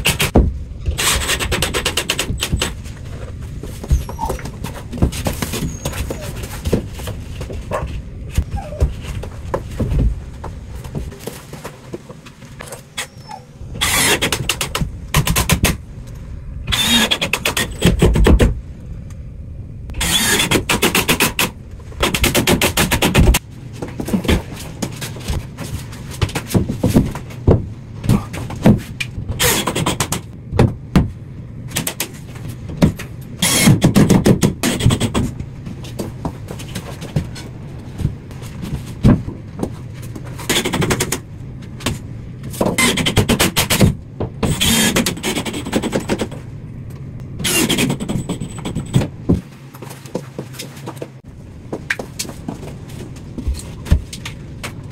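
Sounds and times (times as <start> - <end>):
knocks and scrapes: 0.0 - 18.6, 20.0 - 54.9.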